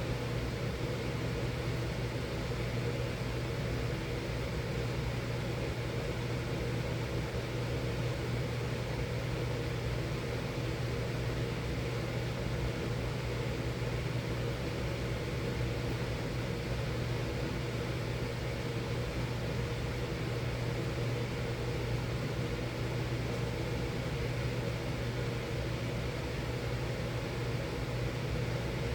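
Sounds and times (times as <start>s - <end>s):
furnace humming and hissing: 0.0s - 28.9s.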